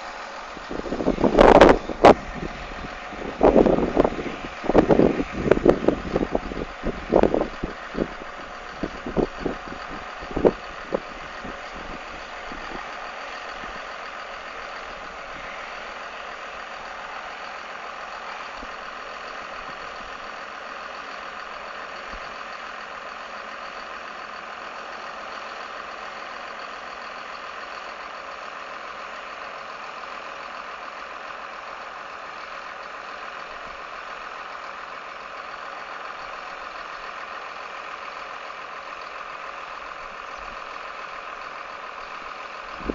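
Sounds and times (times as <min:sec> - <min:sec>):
harvest machinery droning: 0:00.0 - 0:42.9.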